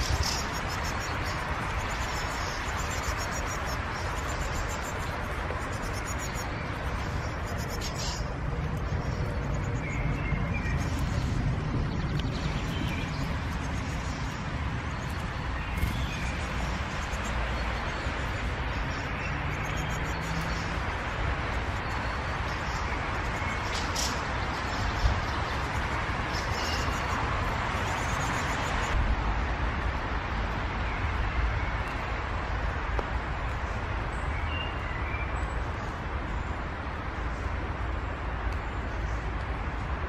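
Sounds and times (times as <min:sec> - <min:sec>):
outdoor rumble and hiss: 0:00.0 - 0:40.0.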